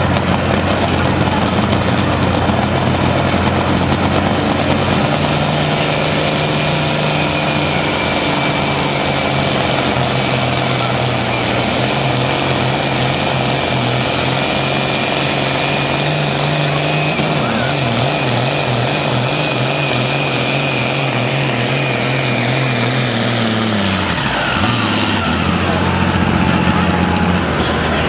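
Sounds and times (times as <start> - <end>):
tractor diesel engine running hard: 0.0 - 28.0.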